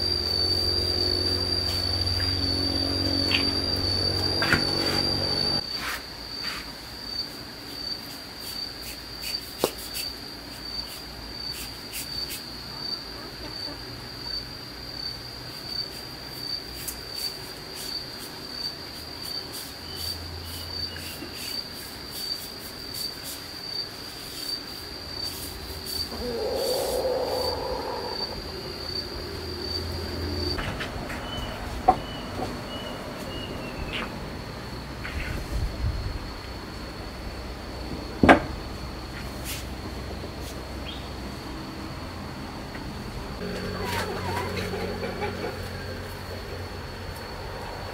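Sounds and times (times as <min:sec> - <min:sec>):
insect chirping trill: 0:00.0 - 0:47.9.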